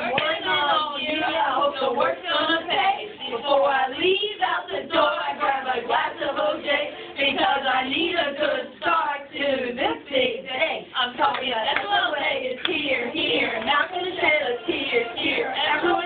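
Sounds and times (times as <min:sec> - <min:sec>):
women singing unaccompanied: 0:00.0 - 0:16.0.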